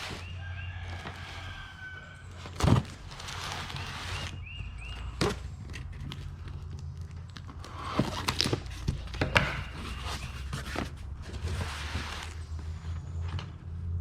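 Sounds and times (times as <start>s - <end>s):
junk being handled: 0.0s - 13.7s.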